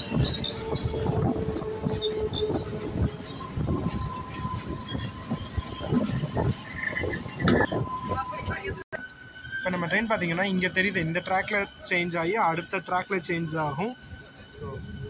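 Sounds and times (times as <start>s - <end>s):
train wheel squeal: 0.0s - 15.0s.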